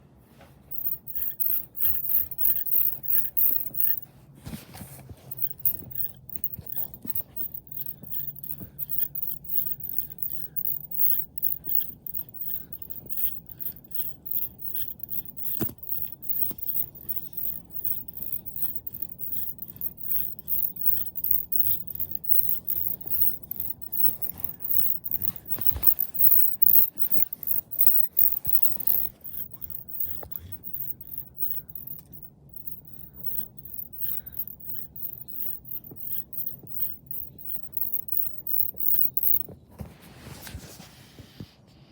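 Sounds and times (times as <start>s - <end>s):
speed cube clicking and scraping: 0.7s - 4.0s, 5.3s - 39.5s.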